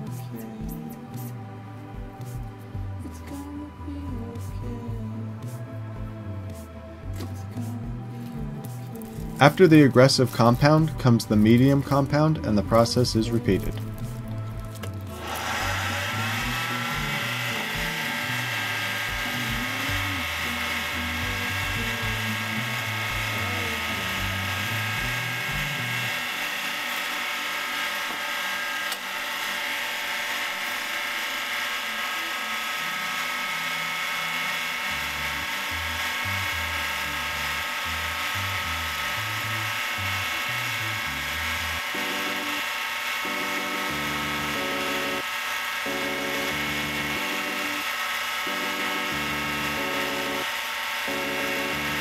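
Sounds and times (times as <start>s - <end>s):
background music with bass line: 0.0s - 52.0s
lathe motor whining: 0.0s - 52.0s.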